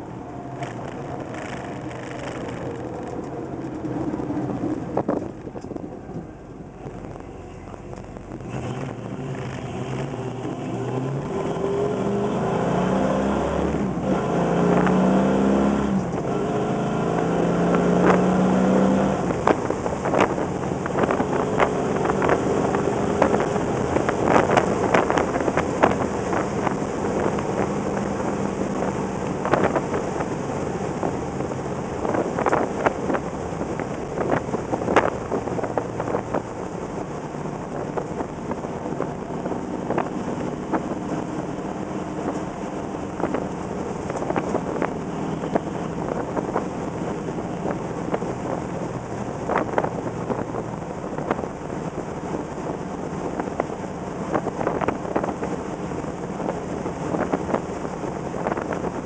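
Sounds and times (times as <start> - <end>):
car engine revving: 0.0 - 59.0
road and wind noise: 0.0 - 59.0.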